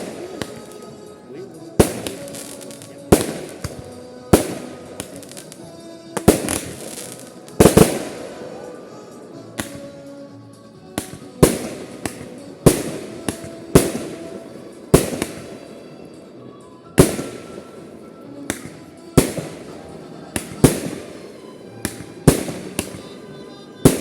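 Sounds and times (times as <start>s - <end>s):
fireworks bursting with echo: 0.0s - 24.0s.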